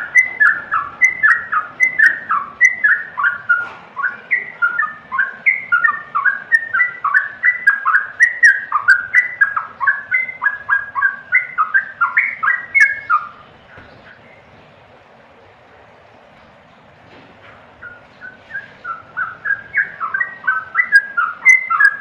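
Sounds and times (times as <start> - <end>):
bird singing fast short notes: 0.0 - 14.7, 17.8 - 22.0.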